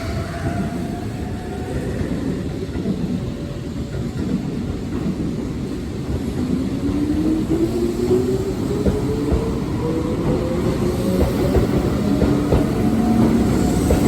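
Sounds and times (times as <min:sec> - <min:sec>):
train cars rumbling: 0:00.0 - 0:14.0.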